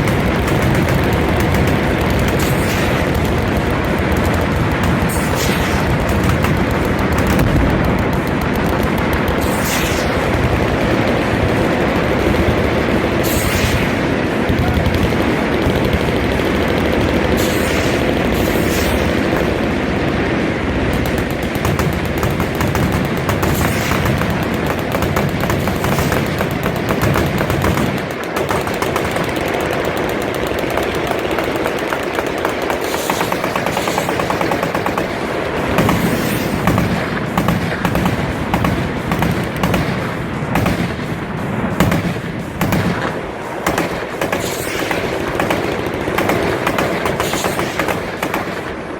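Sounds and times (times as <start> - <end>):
machine guns firing: 0.0 - 48.9.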